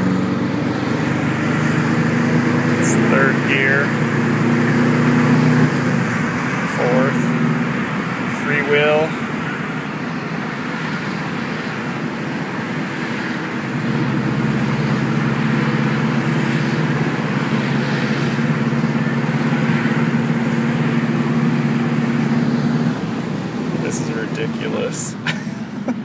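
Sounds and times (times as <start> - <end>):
car engine running: 0.0 - 26.0
road noise: 0.0 - 26.0.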